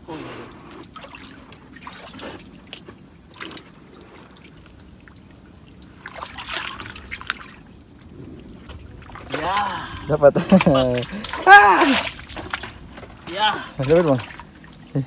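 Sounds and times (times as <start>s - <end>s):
water splashing: 0.0s - 15.0s
water trickling and dripping: 0.0s - 15.0s.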